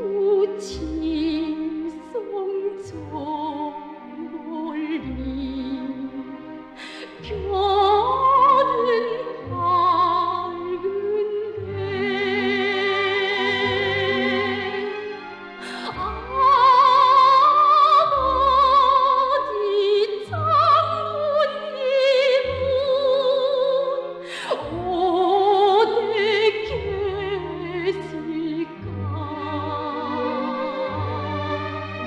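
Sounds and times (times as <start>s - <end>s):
orchestral accompaniment: 0.0s - 32.0s.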